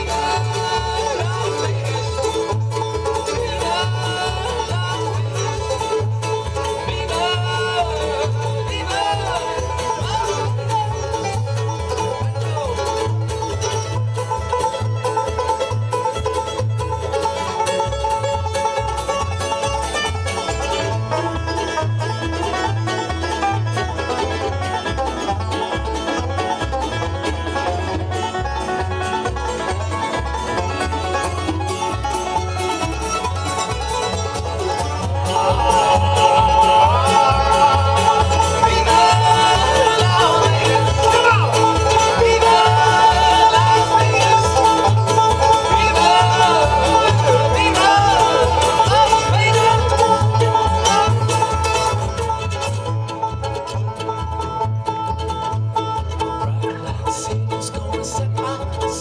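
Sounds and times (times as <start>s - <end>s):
acoustic guitar: 0.0s - 59.0s
banjo: 0.0s - 59.0s
fiddle: 0.0s - 59.0s
mandolin: 0.0s - 59.0s
upright bass: 0.0s - 59.0s.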